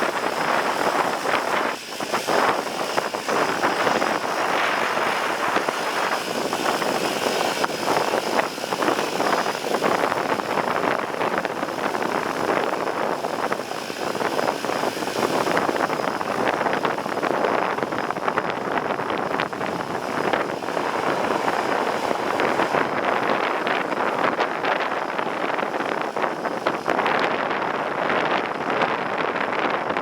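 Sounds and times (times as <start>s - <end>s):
propeller engines running: 0.0s - 30.0s.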